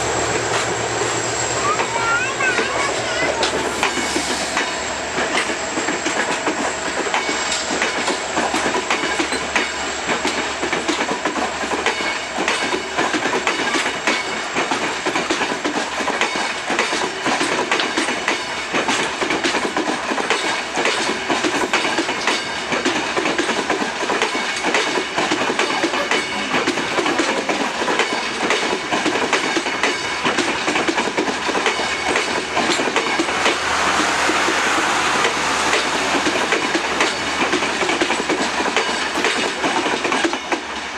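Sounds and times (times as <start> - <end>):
train wheels clattering over rails: 0.0 - 40.9.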